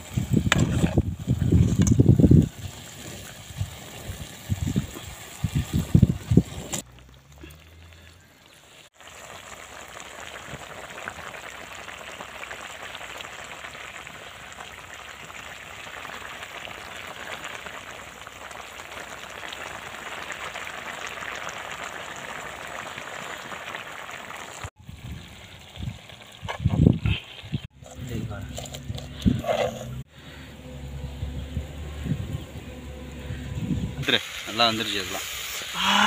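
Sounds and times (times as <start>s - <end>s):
curry bubbling and sizzling: 0.0s - 30.1s.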